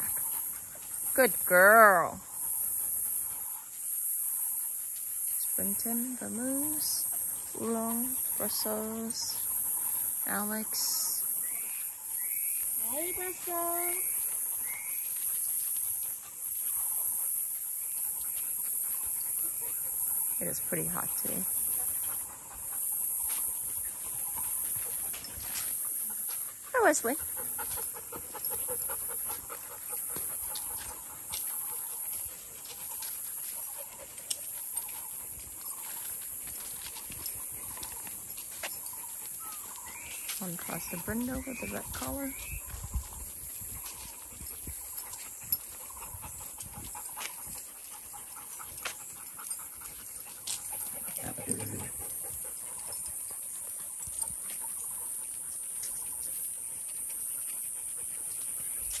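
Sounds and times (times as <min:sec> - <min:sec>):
dog footsteps on pavement: 0:00.0 - 0:59.0
dogs panting: 0:00.0 - 0:59.0.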